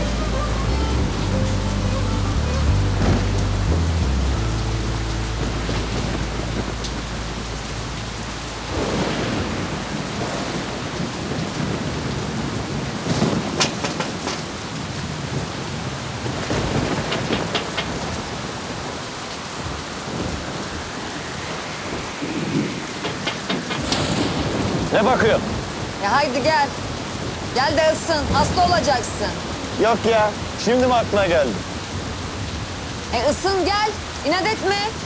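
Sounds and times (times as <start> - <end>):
heavy rain falling: 0.0 - 35.0
thunder rumbling: 0.0 - 35.0.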